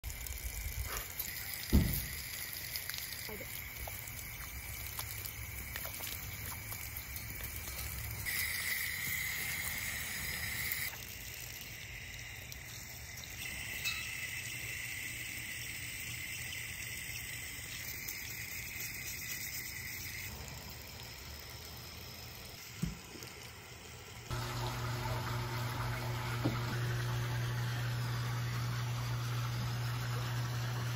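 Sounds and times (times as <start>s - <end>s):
water splashing from a hose: 0.0s - 30.9s.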